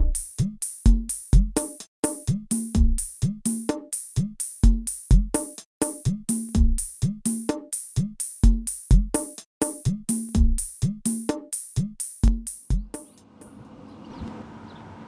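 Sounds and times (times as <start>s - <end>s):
electronic music with drum-machine beat: 0.0s - 13.2s.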